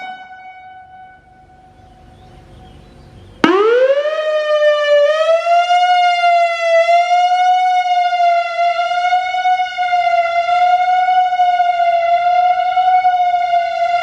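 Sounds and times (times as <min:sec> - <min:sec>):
warning siren high tone: 0:00.0 - 0:02.4, 0:03.4 - 0:14.0.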